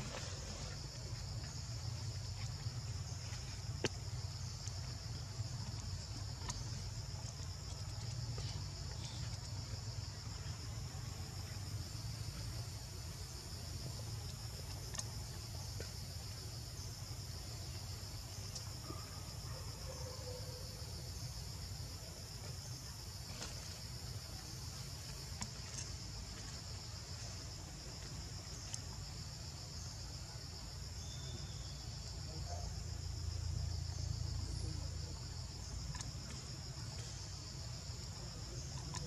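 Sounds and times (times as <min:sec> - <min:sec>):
insect chorus chirring: 0:00.0 - 0:39.0.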